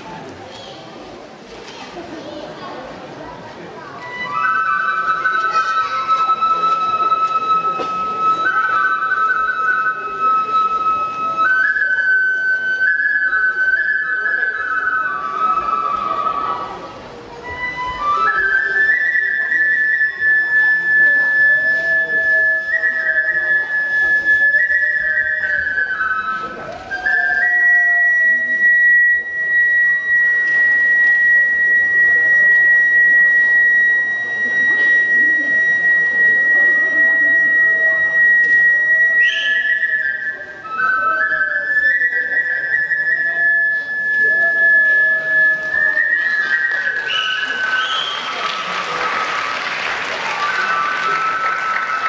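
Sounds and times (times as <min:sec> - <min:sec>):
bamboo flute playing: 0:00.0 - 0:52.0.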